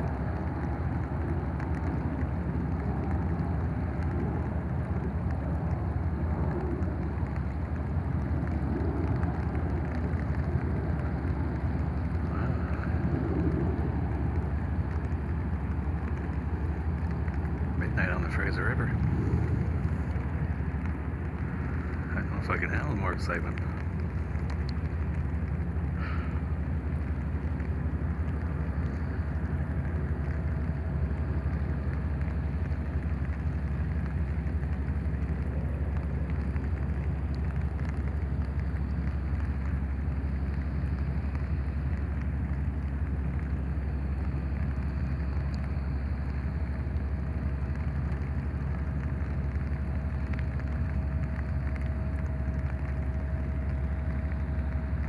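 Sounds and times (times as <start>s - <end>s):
boat engine drone: 0.0s - 55.0s
steady rain falling: 0.0s - 55.0s.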